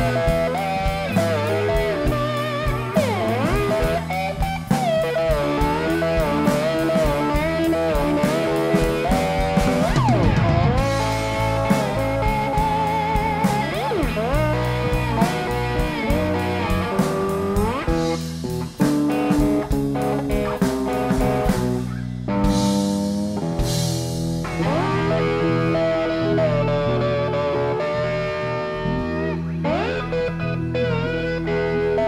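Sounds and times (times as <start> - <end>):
drums: 0.0 - 32.0
electric guitar solo: 0.0 - 32.0.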